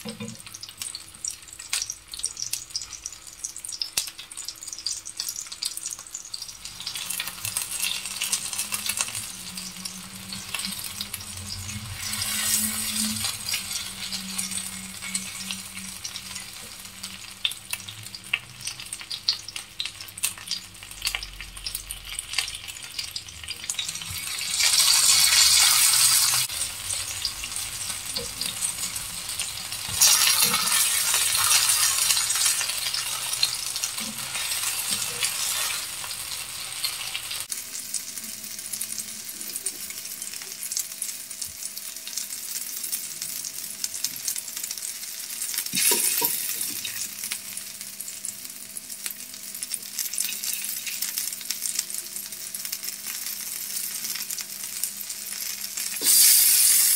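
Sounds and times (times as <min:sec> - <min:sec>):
fish sizzling in hot oil: 0:00.0 - 0:56.9.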